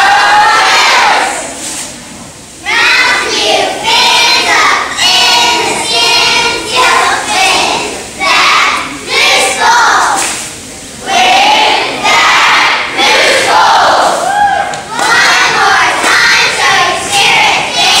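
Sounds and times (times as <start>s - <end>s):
cheerleaders shouting a cheer: 0.0s - 1.6s, 2.6s - 10.4s, 11.0s - 18.0s.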